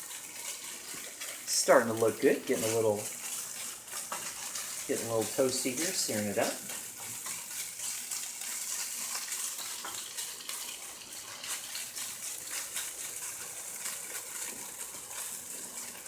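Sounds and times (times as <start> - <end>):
tofu sizzling in a frying pan: 0.0 - 16.0.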